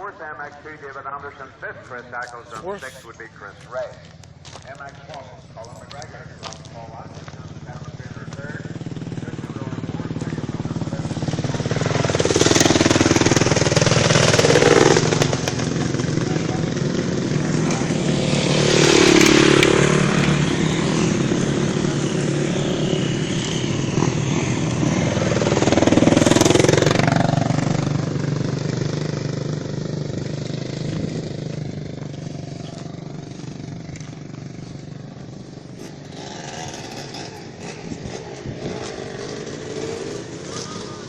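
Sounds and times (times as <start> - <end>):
motorbike engines revving: 1.0 - 41.0
motorbikes passing close by: 3.7 - 41.0.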